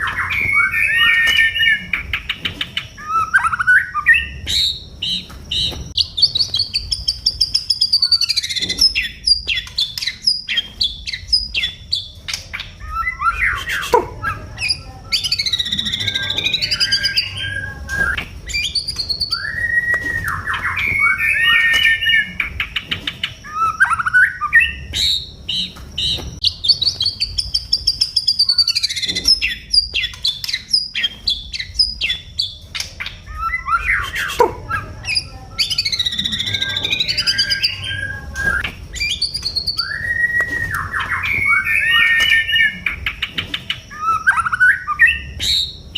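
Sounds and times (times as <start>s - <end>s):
songbird whistles and trills: 0.0s - 45.9s.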